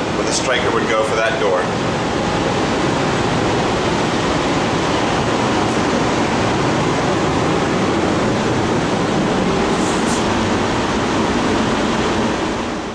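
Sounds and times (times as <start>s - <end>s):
loud rushing noise: 0.0s - 12.9s.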